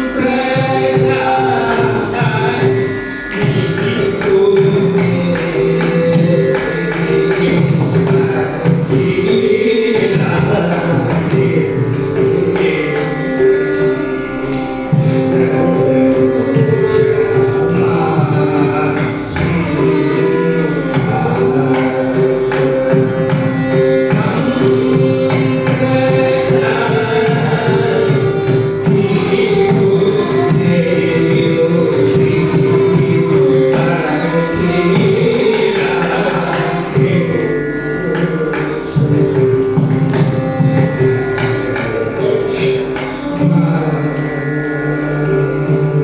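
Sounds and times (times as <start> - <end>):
man singing: 0.0 - 46.0
violin: 0.0 - 46.0.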